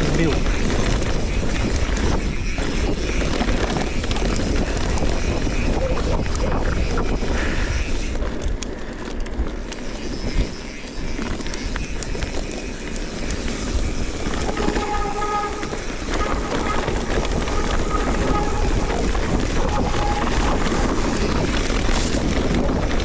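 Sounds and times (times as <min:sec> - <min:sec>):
rumbling and rattling ride: 0:00.0 - 0:07.9, 0:09.6 - 0:23.0.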